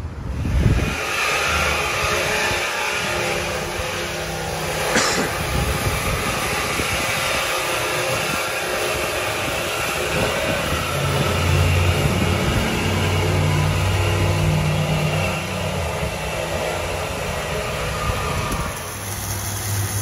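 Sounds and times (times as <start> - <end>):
steady rushing noise: 0.0 - 20.0
vehicle engine running: 0.2 - 20.0.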